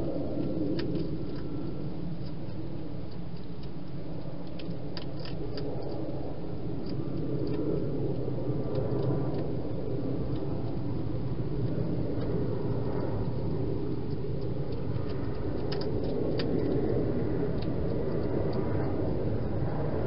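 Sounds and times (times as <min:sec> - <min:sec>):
hedgehog eating clicks and crunches: 0:00.0 - 0:20.0
steady low rumble: 0:00.0 - 0:20.0.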